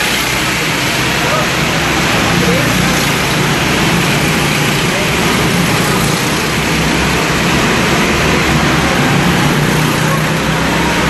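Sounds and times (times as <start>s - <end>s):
go-karts running: 0.0s - 11.0s.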